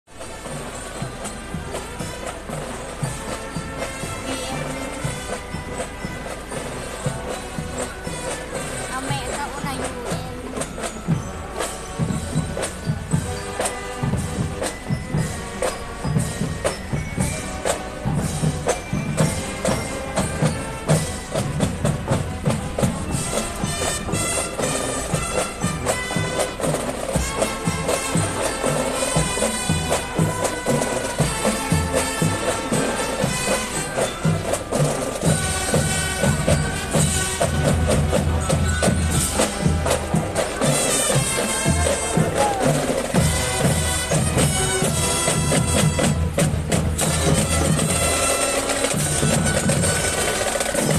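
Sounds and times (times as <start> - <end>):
drums beating: 0.1 - 50.9
held instrument notes: 0.1 - 50.9
marching band playing: 0.1 - 50.9.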